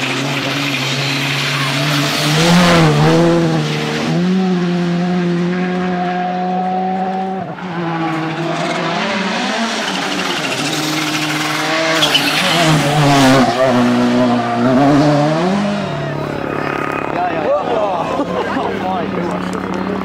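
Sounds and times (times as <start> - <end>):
rally car engines revving: 0.0 - 20.0.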